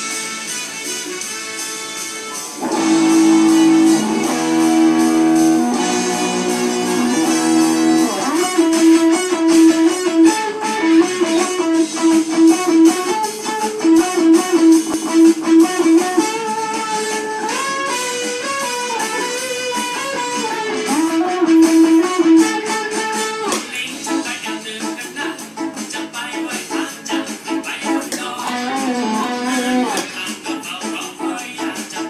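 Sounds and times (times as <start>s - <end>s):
band music with electric guitar: 0.0s - 32.0s.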